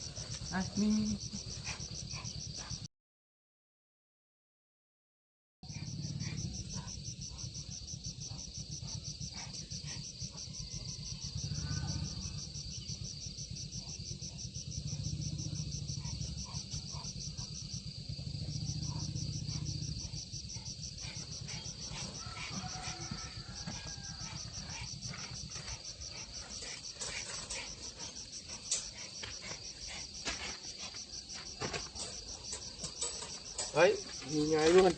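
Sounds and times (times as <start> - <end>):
crickets chirping: 0.0 - 2.9, 5.6 - 34.9.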